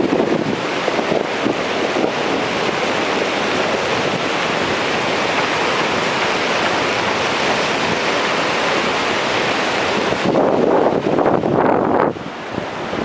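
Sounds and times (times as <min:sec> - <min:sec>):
storm wind: 0:00.0 - 0:13.0
surf breaking on beach: 0:00.0 - 0:13.0
wind buffeting microphone: 0:00.0 - 0:13.0.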